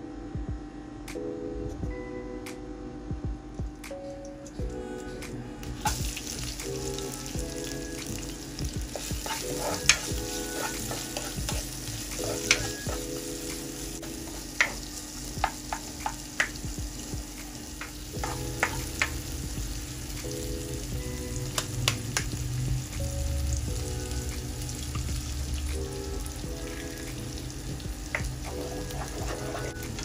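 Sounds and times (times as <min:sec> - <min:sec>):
food sizzling in a hot pan: 0:05.8 - 0:30.0.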